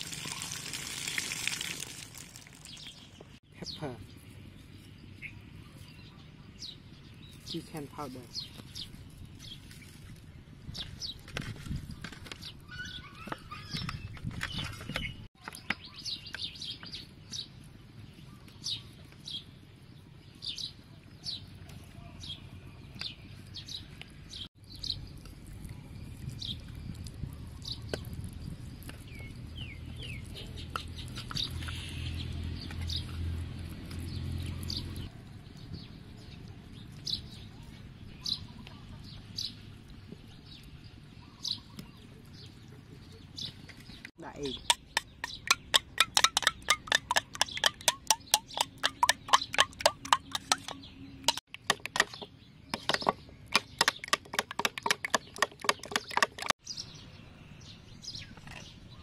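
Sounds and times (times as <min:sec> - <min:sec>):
small birds chirping: 0:02.4 - 0:59.0.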